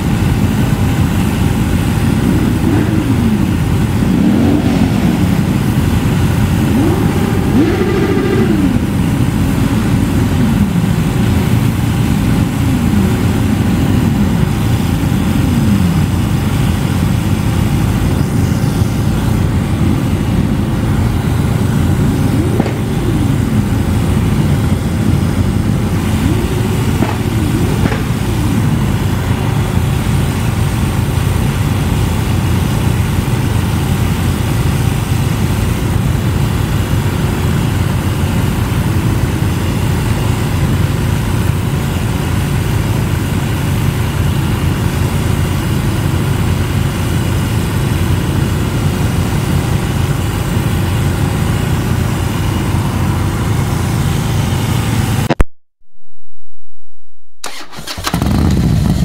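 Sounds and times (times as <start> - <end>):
engine revving: 0.0 - 55.4, 57.4 - 59.0
motorcycle engines idling: 0.0 - 55.4, 57.4 - 59.0.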